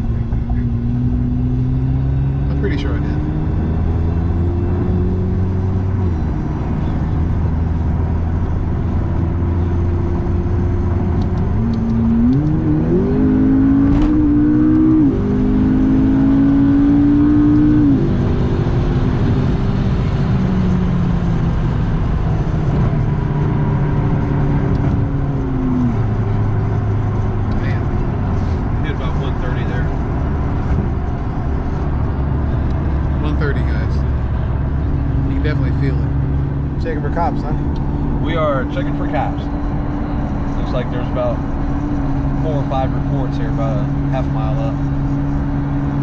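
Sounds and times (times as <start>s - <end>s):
car engine accelerating: 0.0s - 46.0s
tyre and road noise: 0.0s - 46.0s.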